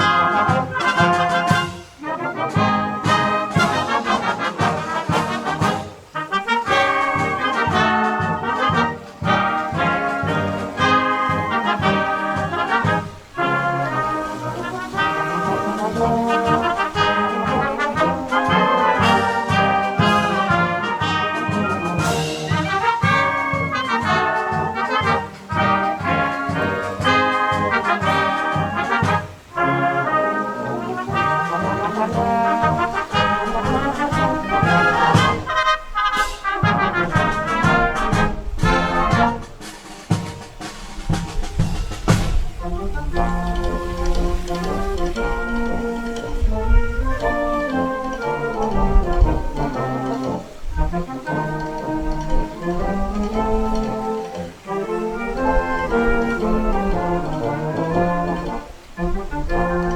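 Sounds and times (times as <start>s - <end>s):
wind band playing a march: 0.0s - 59.9s.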